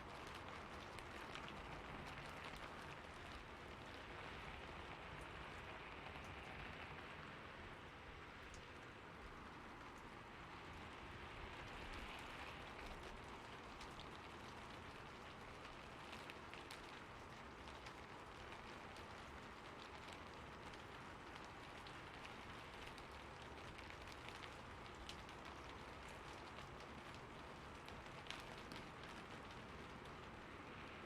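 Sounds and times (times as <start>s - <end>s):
rain on a rooftop: 0.0s - 31.0s
sharp raindrop ticks: 0.0s - 31.0s.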